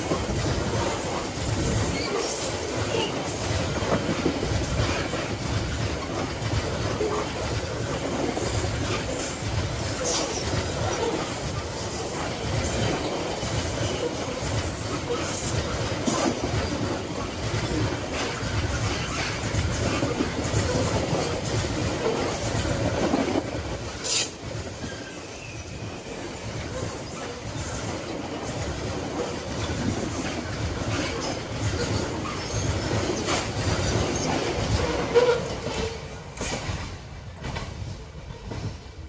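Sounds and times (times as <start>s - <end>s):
train wheels rumbling and clattering: 0.0s - 39.0s.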